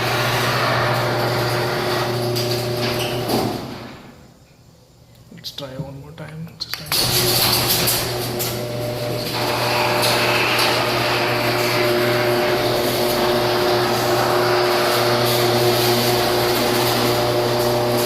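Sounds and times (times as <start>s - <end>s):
garage door opener motor humming: 0.0s - 4.2s, 6.9s - 18.0s.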